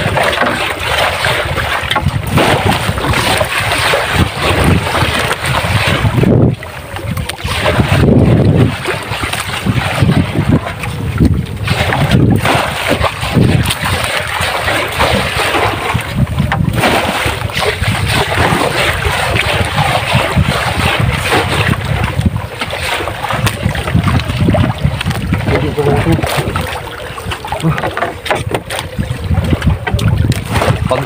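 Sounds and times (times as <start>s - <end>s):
seawater splashing: 0.0s - 31.0s
wind buffeting microphone: 0.0s - 31.0s.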